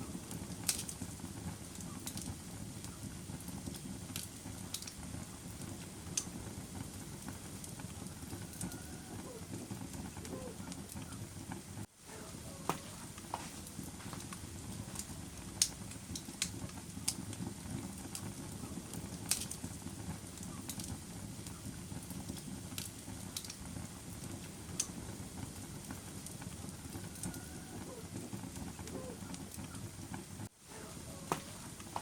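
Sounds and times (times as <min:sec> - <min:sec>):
fire flames rumbling: 0:00.0 - 0:32.0
logs crackling and popping: 0:00.0 - 0:32.0.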